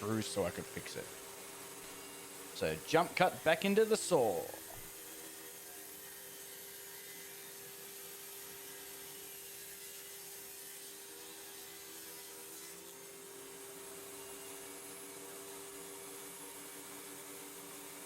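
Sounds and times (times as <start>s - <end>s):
table saw running: 0.0s - 18.0s.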